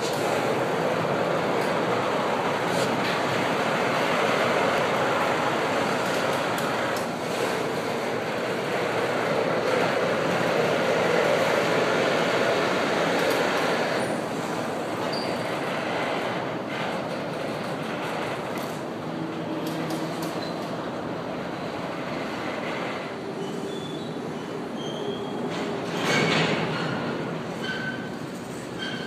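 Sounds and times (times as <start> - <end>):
freight train wheels rumbling: 0.0 - 29.0.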